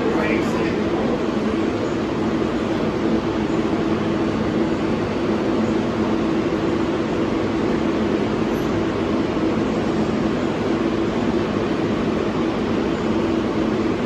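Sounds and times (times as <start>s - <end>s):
subway train rumbling and humming: 0.0s - 14.0s.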